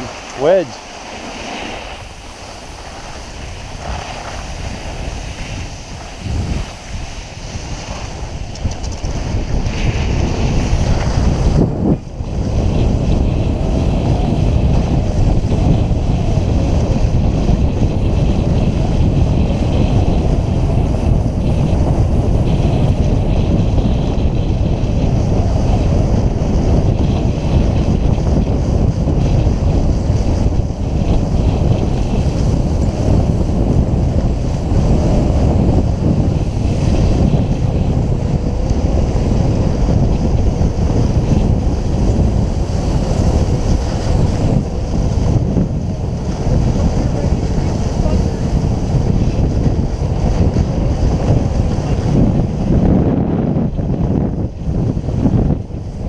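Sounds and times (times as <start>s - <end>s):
skis scraping over snow: 0.0s - 56.0s
wind buffeting microphone: 0.0s - 56.0s.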